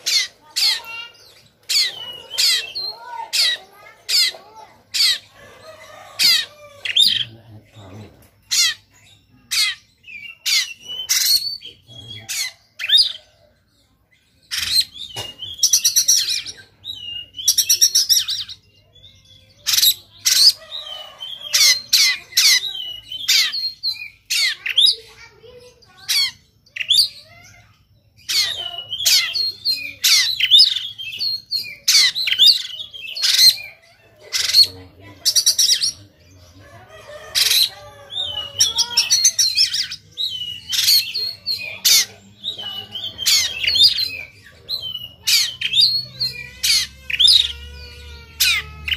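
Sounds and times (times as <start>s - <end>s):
songbird harsh aggressive song: 0.0s - 13.4s, 14.1s - 48.9s.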